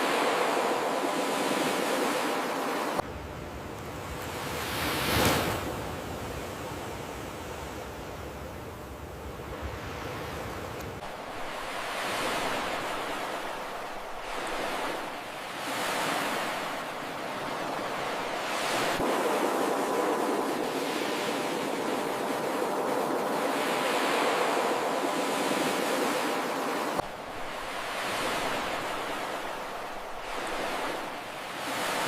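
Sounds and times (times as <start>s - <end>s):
ocean surf washing ashore: 0.0s - 32.0s.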